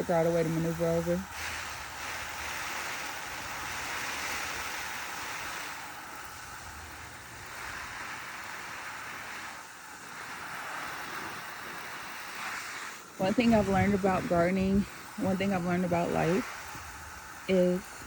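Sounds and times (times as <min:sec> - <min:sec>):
water spraying from garden hose: 0:00.0 - 0:18.0.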